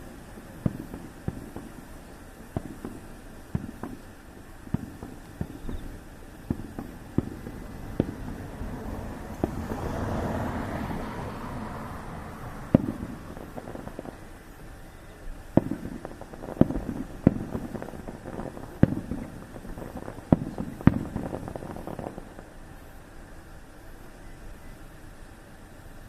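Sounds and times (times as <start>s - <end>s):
fireworks bangs: 0.0s - 23.8s.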